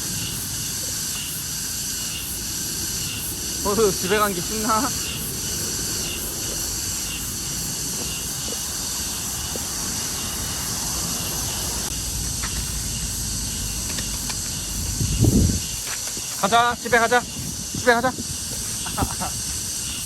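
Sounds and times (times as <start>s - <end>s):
constant high hiss: 0.0s - 20.0s.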